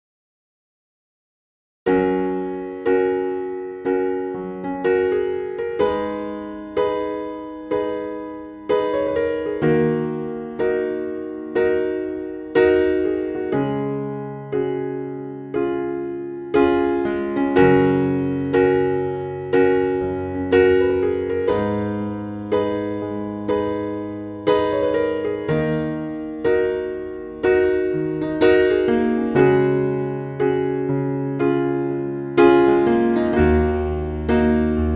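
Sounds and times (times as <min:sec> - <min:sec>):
slow electric piano chords: 0:01.9 - 0:34.9.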